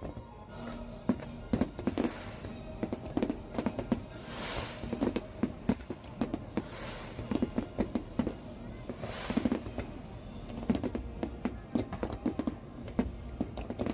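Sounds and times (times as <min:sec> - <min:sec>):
fireworks bursting: 0:00.0 - 0:13.9.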